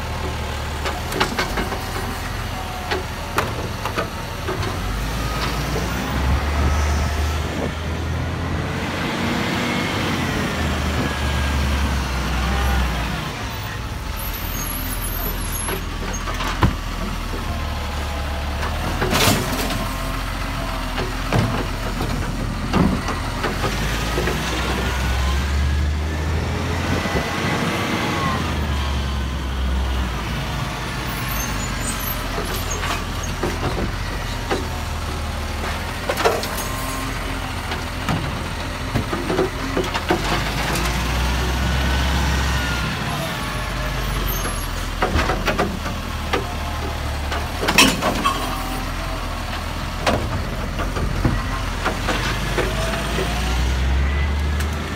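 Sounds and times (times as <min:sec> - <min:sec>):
garbage truck diesel engine: 0:00.0 - 0:54.9.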